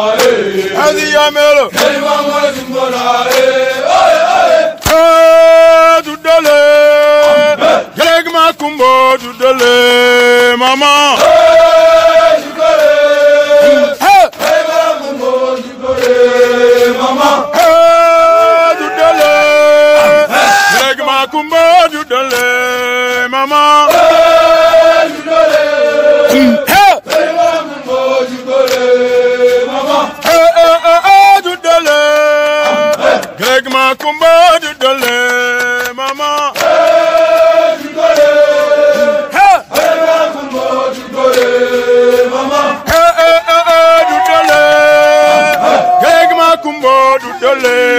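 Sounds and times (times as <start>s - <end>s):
men singing a chant: 0.0s - 47.9s.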